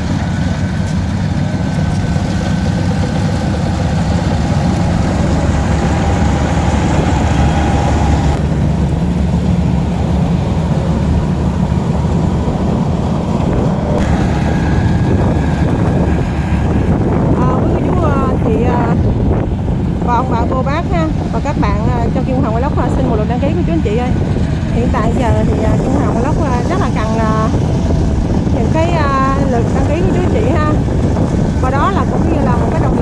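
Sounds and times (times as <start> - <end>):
combine harvester engine running: 0.0 - 33.0.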